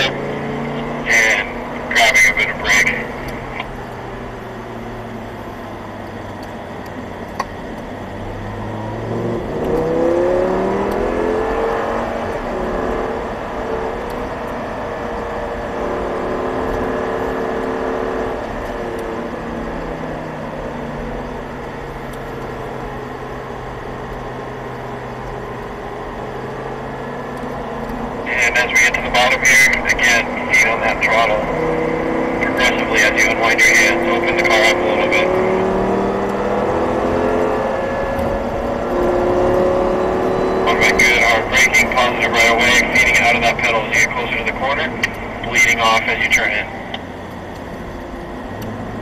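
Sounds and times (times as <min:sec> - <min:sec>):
car engine revving inside cabin: 0:00.0 - 0:49.0.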